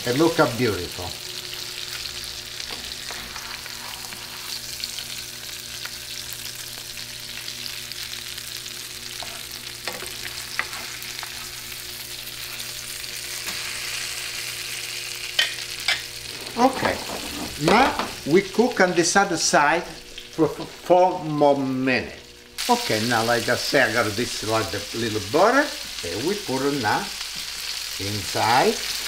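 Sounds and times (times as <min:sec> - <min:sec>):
fish sizzling in a pan: 0:00.0 - 0:18.9, 0:19.6 - 0:29.0.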